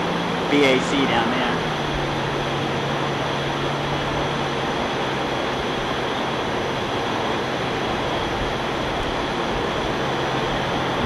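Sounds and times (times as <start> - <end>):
light aircraft engine drone: 0.0 - 11.0
low hum: 0.0 - 11.0.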